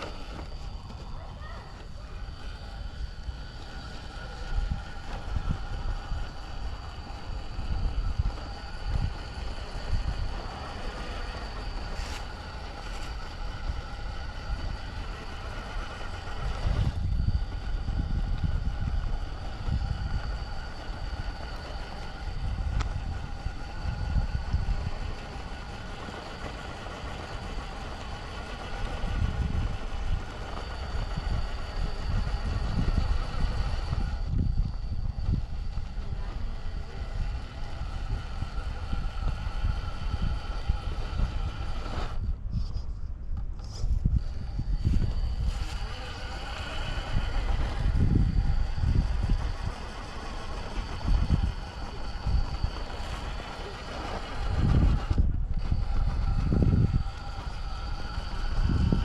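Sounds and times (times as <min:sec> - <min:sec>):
rc car motor whining: 0:00.0 - 0:59.0.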